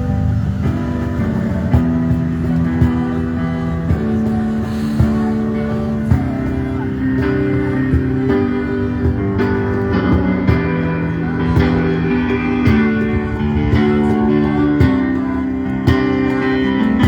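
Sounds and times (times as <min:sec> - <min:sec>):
rock music with guitars and drums: 0:00.0 - 0:17.0.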